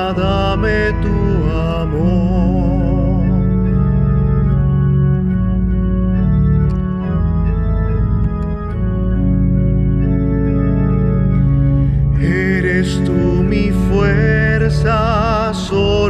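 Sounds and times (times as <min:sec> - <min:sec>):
electronic organ chords: 0:00.0 - 0:16.0.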